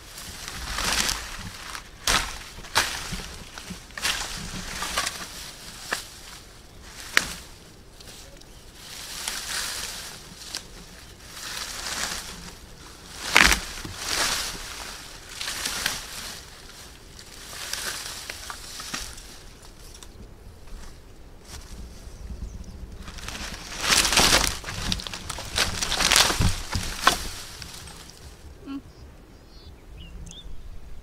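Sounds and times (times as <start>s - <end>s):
wood cracking: 0.0s - 8.5s, 9.2s - 20.8s, 22.9s - 28.3s
branches rustling through leaves: 0.0s - 28.8s.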